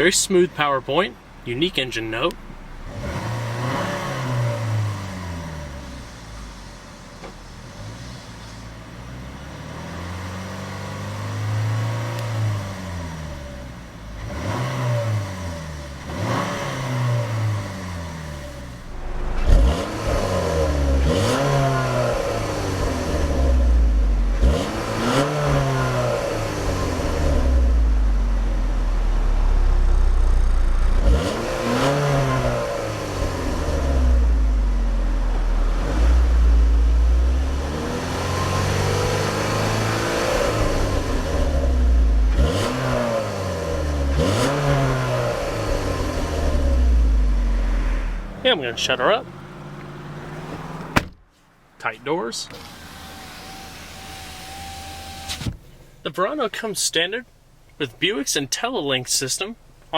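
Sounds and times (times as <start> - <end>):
car engine revving: 1.0 - 51.0, 52.4 - 55.9.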